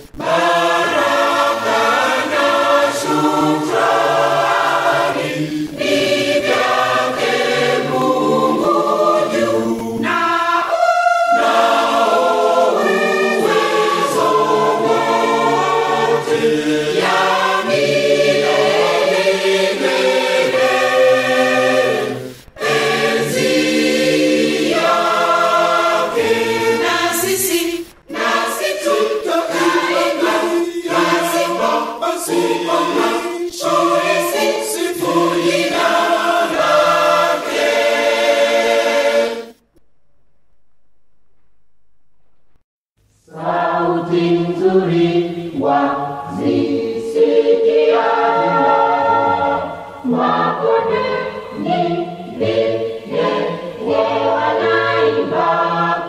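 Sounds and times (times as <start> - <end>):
choir singing a hymn: 0.0 - 39.6, 43.3 - 56.0.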